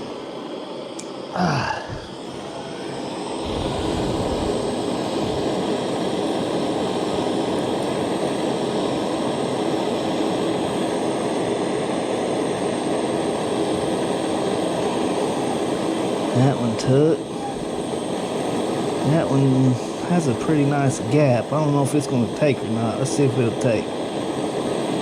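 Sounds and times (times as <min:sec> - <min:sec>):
torch flame burning: 0:00.0 - 0:25.0.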